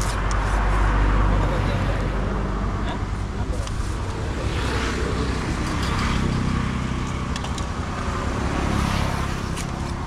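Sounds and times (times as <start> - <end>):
motor vehicle engine rumble: 0.0 - 10.0.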